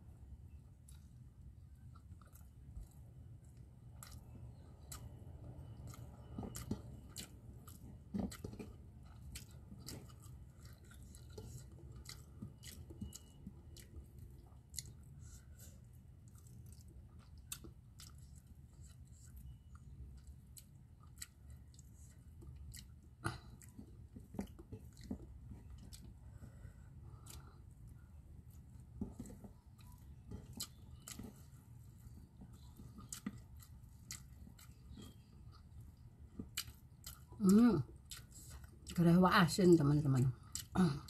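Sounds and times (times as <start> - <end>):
person chewing: 0.7 - 39.0, 40.4 - 41.0.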